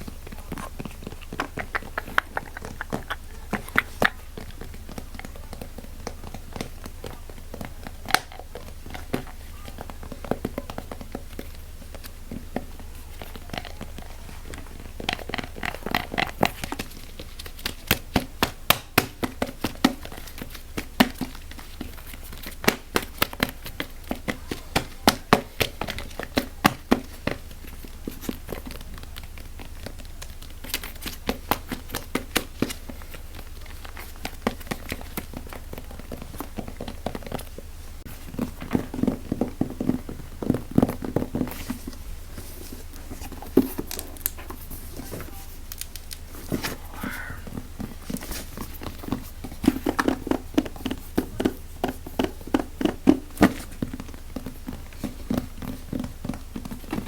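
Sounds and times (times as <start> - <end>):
fast tapping and clicking on object: 0.0 - 57.0
steady low hum: 0.0 - 57.0.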